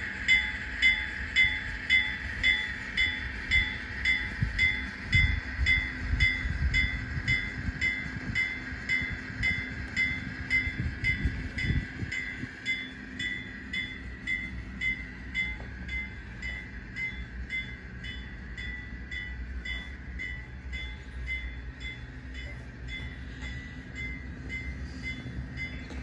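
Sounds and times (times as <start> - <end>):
steady low hum: 0.0 - 26.0
ringing bell-like tone: 0.2 - 26.0.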